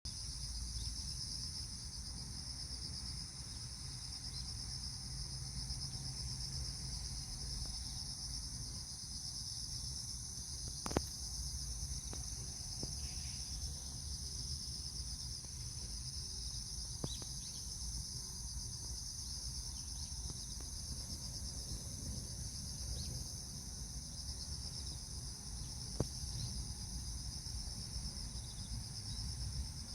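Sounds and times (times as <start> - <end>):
crickets chirring: 0.1 - 29.9.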